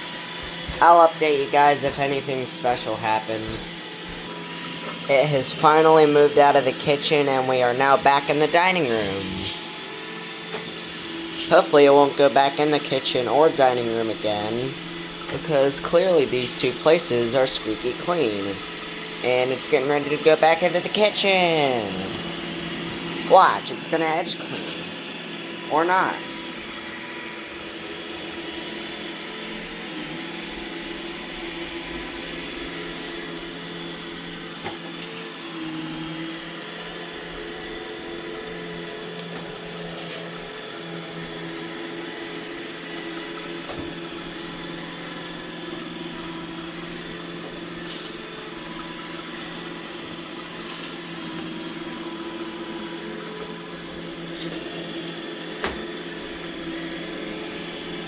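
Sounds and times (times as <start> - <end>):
robot vacuum humming: 0.0 - 58.0.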